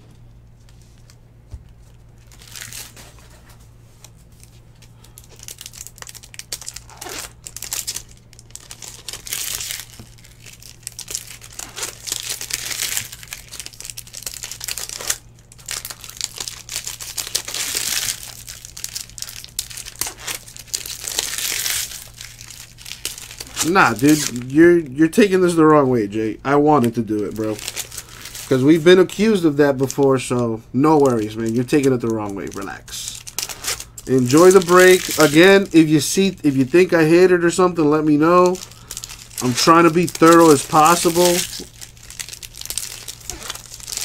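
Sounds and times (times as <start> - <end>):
steady low hum: 0.0 - 44.0
foil wrappers crinkling: 0.7 - 44.0.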